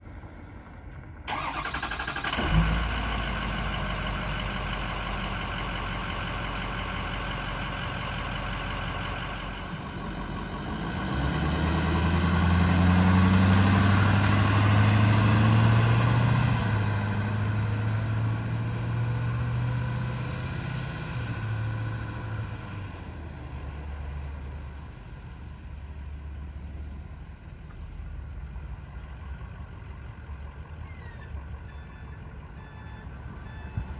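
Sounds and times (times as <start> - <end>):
diesel engine starting and idling: 0.0 - 33.9.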